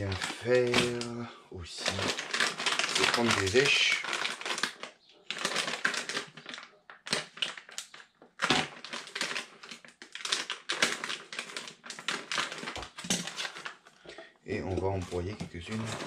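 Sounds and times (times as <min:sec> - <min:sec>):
plastic packet crinkling: 0:00.0 - 0:16.0.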